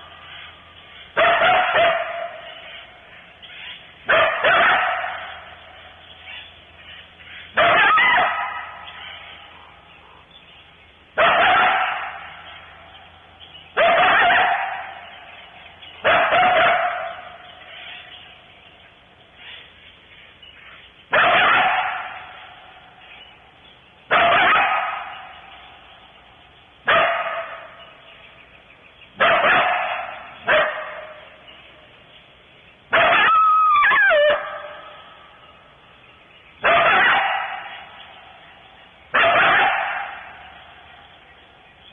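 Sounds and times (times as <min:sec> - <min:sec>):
coyote barking and howling: 0:00.0 - 0:10.3, 0:11.1 - 0:18.4, 0:21.0 - 0:23.5, 0:24.1 - 0:26.2, 0:26.8 - 0:32.0, 0:32.8 - 0:41.9.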